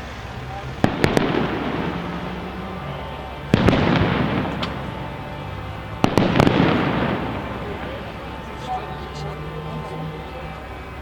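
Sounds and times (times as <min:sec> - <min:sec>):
fireworks bangs: 0:00.0 - 0:10.3
echoing rumble: 0:00.0 - 0:11.0.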